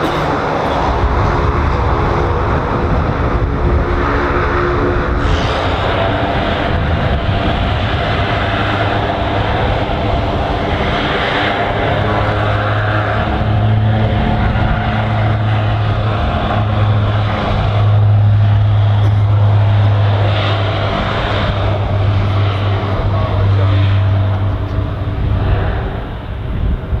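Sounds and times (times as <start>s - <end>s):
loud aircraft engine noise: 0.0s - 27.0s
low propeller hum: 0.0s - 27.0s.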